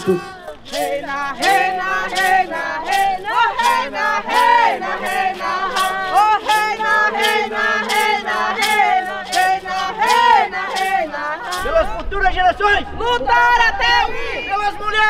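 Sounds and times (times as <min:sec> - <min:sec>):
hand rattles shaken: 0:00.0 - 0:12.2
group singing a chant: 0:00.0 - 0:15.0.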